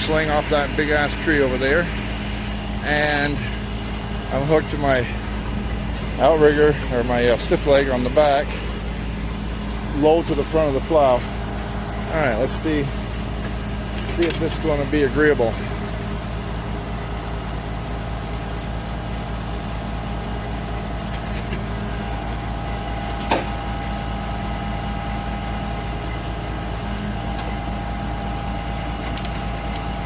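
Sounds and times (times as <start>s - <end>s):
truck diesel engine running: 0.0s - 30.0s
winch whine: 0.0s - 30.0s.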